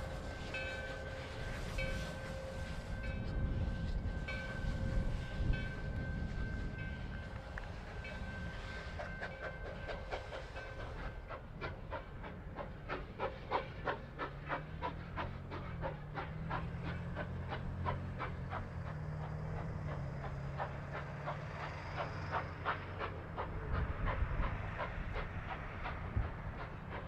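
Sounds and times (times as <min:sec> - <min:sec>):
steady steam hiss: 0:00.0 - 0:27.0
steam locomotive exhaust chuffs: 0:00.0 - 0:27.0.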